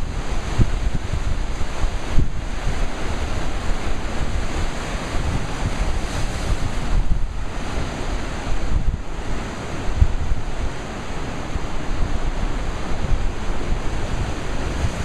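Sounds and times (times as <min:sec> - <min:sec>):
surf washing through rocks: 0:00.0 - 0:15.0
wind buffeting microphone: 0:00.0 - 0:15.0.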